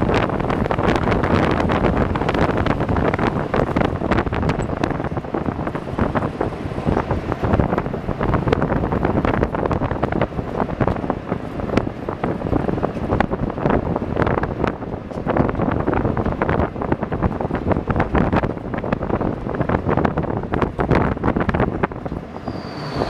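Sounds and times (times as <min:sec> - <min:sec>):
road noise: 0:00.0 - 0:23.0
truck engine: 0:00.0 - 0:23.0
wind buffeting microphone: 0:00.0 - 0:23.0.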